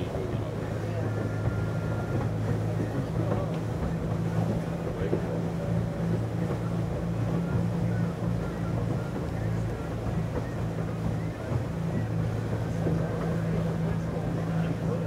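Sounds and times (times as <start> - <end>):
boat engine droning: 0.0 - 15.0
water rushing along hull: 0.0 - 15.0.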